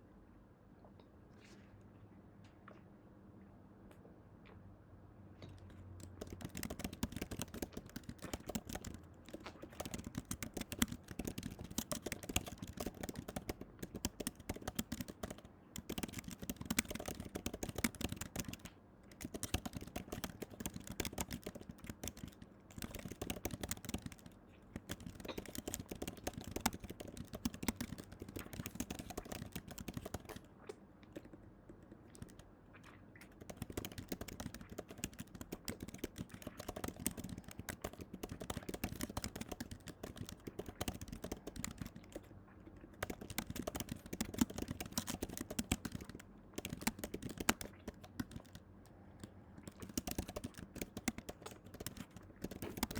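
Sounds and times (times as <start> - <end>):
rapid irregular clicking and tapping: 5.5 - 52.9.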